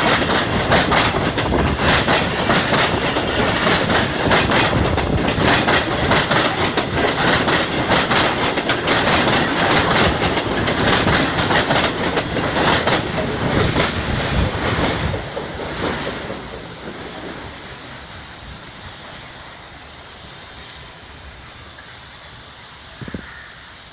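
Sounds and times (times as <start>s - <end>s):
train wheels clattering over joints: 0.0s - 20.1s.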